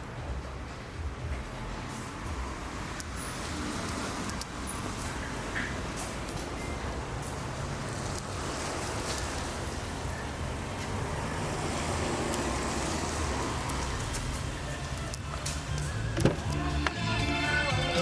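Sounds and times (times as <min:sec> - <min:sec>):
vehicle rumble and hiss: 0:00.0 - 0:18.0.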